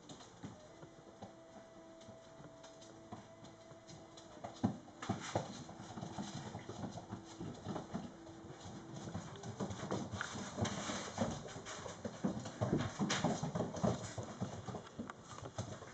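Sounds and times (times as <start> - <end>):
faint steady hum: 0.0 - 15.9
paws pattering on wooden floor: 0.0 - 15.9.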